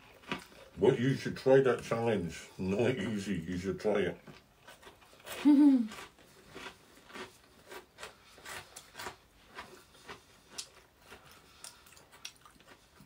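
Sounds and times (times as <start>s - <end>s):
chewing crunchy bread crust: 0.0s - 13.0s.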